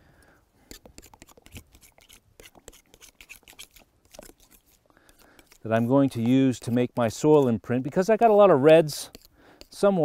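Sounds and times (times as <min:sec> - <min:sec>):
paint scraping and clicks: 0:00.7 - 0:10.0.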